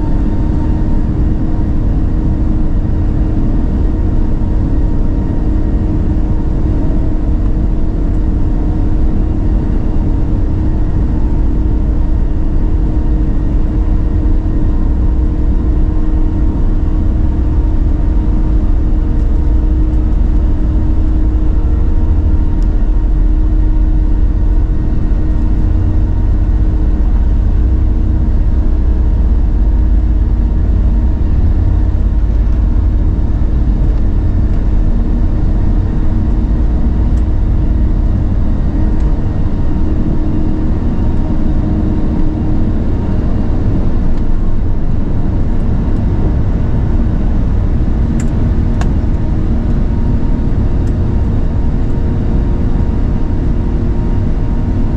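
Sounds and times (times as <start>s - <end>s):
deep cabin rumble: 0.0s - 54.9s
jet engines running: 0.0s - 54.9s.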